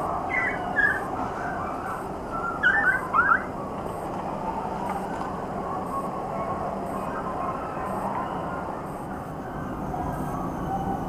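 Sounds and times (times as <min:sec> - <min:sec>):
dogs howling and crying: 0:00.0 - 0:11.0.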